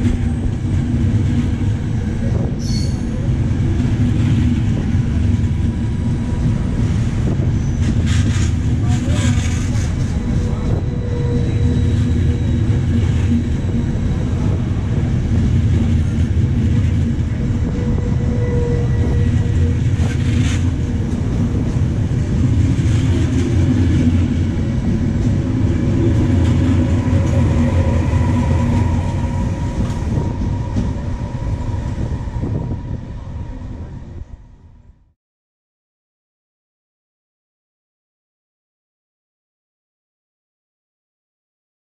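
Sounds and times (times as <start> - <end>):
passenger train rumbling on rails: 0.0 - 35.2.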